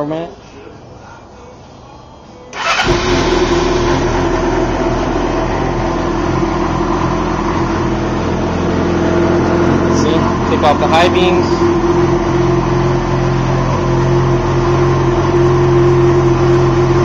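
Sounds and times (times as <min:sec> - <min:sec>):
motorcycle engine idling: 0:02.6 - 0:17.0.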